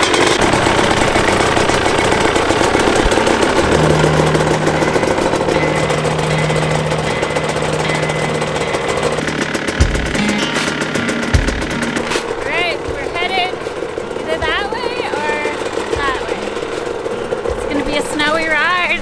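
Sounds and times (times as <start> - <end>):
dirt bike engines idling: 0.0 - 19.0
steady low drone: 0.4 - 18.1.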